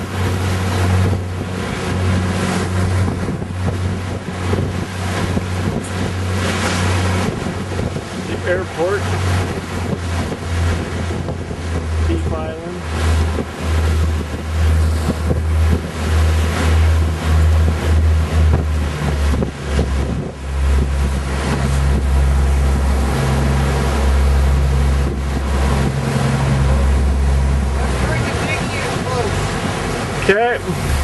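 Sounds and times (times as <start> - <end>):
boat motor running: 0.0 - 31.0
wind buffeting microphone: 0.0 - 31.0.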